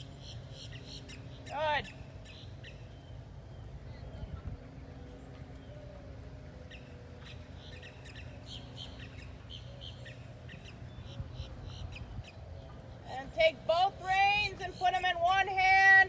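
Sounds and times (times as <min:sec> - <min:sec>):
small birds chirping: 0:00.0 - 0:13.6
low background hum: 0:00.0 - 0:16.0.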